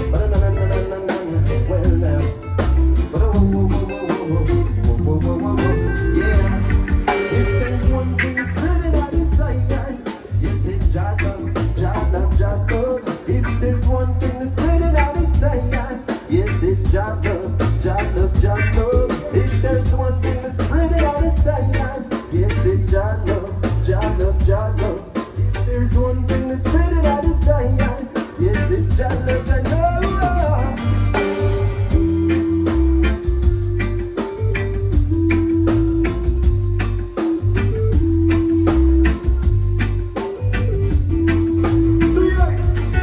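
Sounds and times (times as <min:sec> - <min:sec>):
bass: 0:00.0 - 0:43.0
drum kit: 0:00.0 - 0:43.0
guitar: 0:00.0 - 0:43.0
keyboard: 0:00.0 - 0:43.0
lead voice singing: 0:00.0 - 0:43.0.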